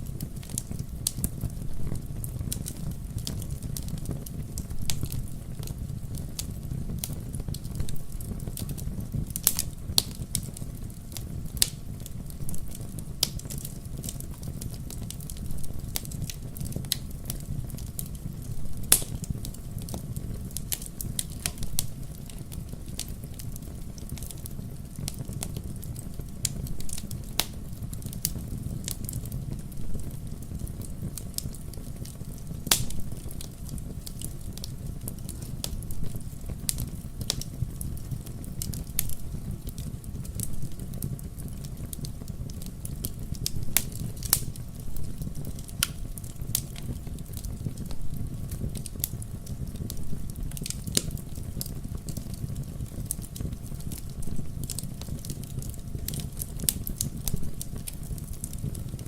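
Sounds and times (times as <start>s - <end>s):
fireplace logs crackling: 0.0s - 59.0s
low fire rumble: 0.0s - 59.0s.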